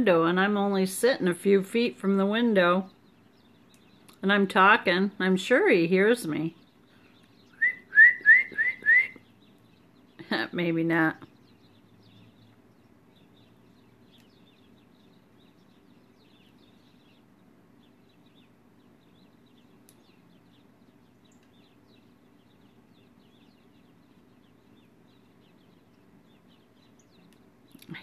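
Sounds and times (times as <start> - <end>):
low steady hum: 0.0 - 28.0
small birds chirping: 0.0 - 28.0.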